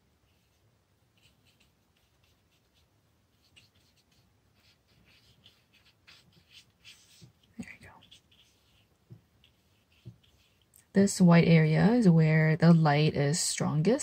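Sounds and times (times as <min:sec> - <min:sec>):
paintbrush strokes on wet paper: 0:00.1 - 0:13.2.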